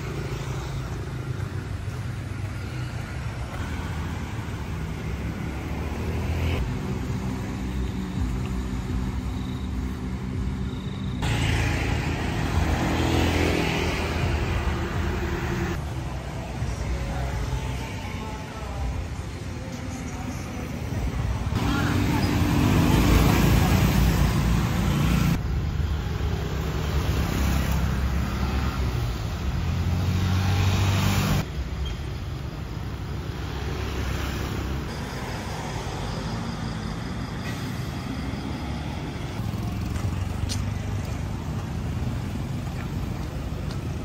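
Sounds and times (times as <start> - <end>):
motorbike engines passing: 0.0 - 18.7, 20.8 - 25.4, 26.0 - 44.0
traffic hum: 0.0 - 44.0.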